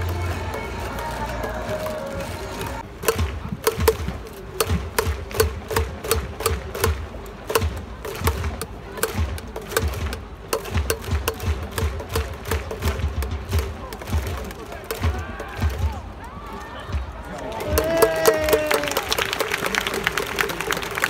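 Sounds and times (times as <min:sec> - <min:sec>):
rhythmic percussion clacks and thuds: 0:00.0 - 0:21.0.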